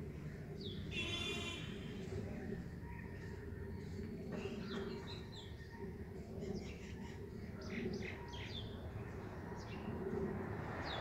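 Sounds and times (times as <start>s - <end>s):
low background noise: 0.0s - 11.0s
small birds chirping: 0.0s - 11.0s.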